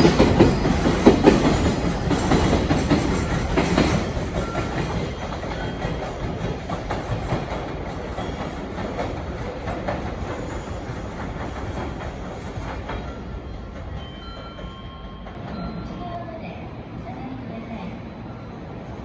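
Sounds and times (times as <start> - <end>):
freight train wheels clacking: 0.0 - 19.0.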